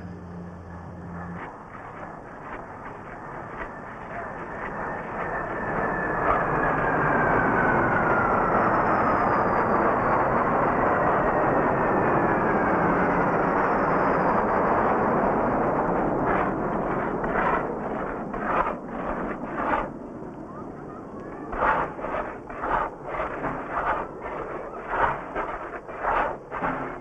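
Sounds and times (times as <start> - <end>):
aircraft passing overhead: 0.0 - 27.0.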